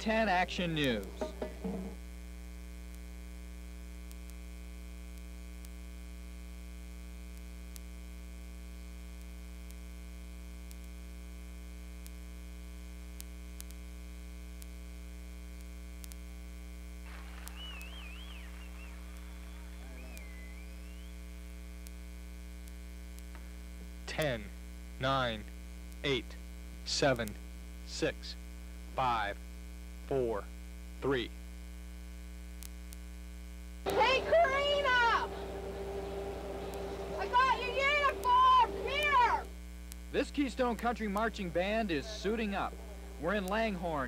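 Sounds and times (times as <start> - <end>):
electrical mains hum: 0.0 - 44.0.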